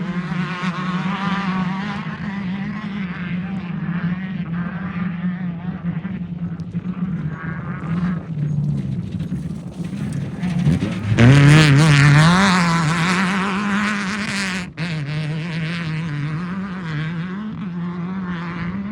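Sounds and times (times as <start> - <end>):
race car engine revving: 0.0 - 18.9.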